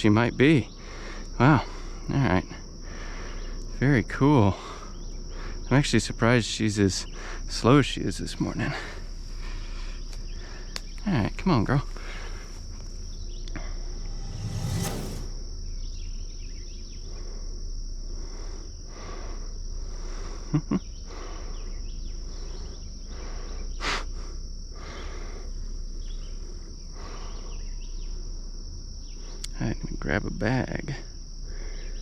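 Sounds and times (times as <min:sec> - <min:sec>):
high-pitched insect trill: 0:00.0 - 0:12.5, 0:15.9 - 0:32.0.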